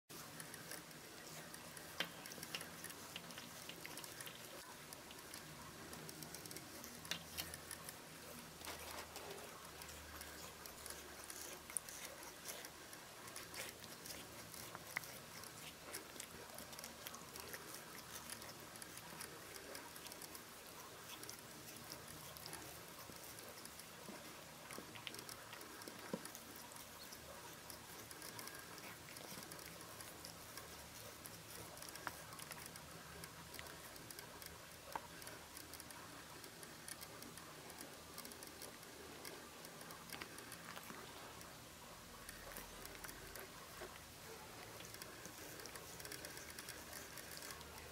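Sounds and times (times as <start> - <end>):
kitten licking fur: 0.1 - 47.9
small irregular clicks: 0.1 - 47.9.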